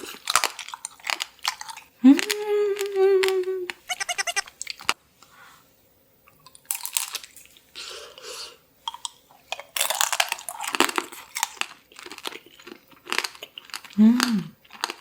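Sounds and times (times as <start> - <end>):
crunching and chewing candy: 0.0 - 5.0, 6.3 - 15.0.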